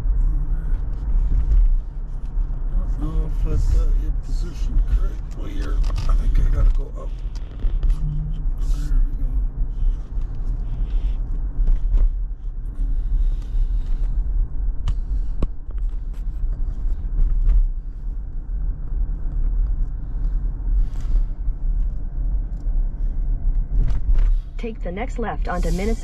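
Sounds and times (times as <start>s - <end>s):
car road rumble and tyre noise: 0.0s - 26.0s.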